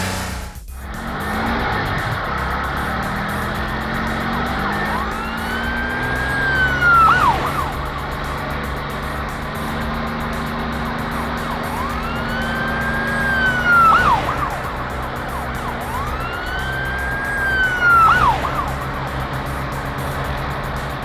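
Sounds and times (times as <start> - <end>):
background music: 0.0 - 21.0
cartoon siren-like wail: 1.2 - 19.6.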